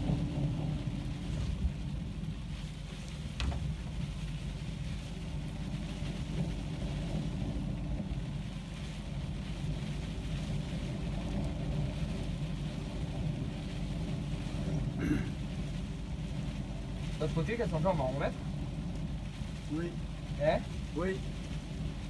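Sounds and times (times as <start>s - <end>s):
insulation blowing machine running: 0.0s - 22.0s.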